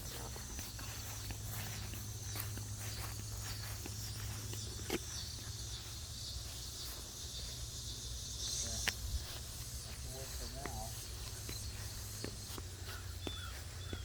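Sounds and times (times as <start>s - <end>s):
insects droning: 0.0s - 14.0s
steady low hum: 0.0s - 14.0s.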